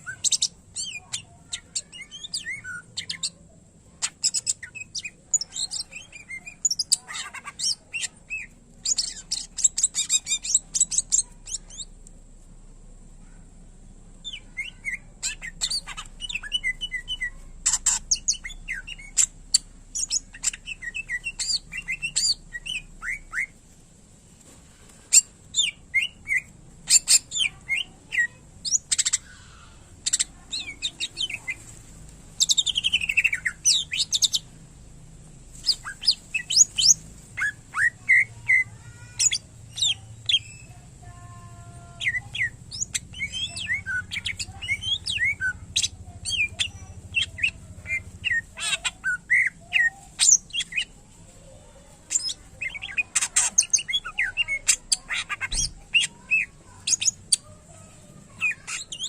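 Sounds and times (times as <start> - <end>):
bird singing chirps and trills: 0.0 - 12.0, 14.2 - 23.6, 25.1 - 31.8, 32.4 - 34.5, 35.5 - 59.0.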